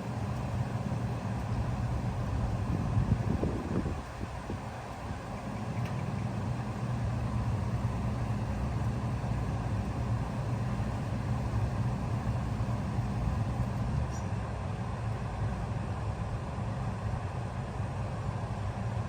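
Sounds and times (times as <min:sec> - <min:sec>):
heat pump humming: 0:00.0 - 0:17.2.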